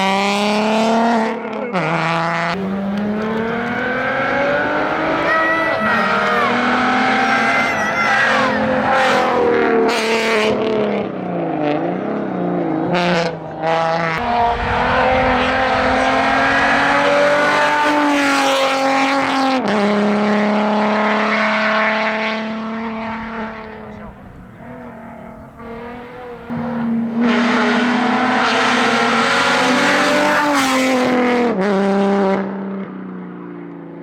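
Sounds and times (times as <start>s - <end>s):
race car engine revving: 0.0s - 32.6s.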